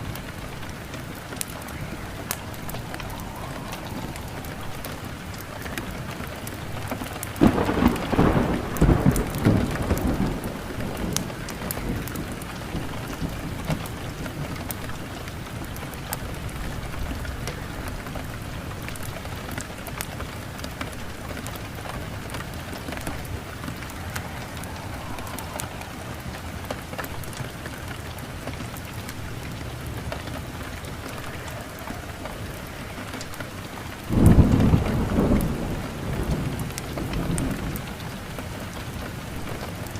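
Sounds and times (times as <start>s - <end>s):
fireplace fire crackling: 0.0s - 39.9s
steady rain: 0.0s - 39.9s
thunder rumbling: 0.0s - 39.9s.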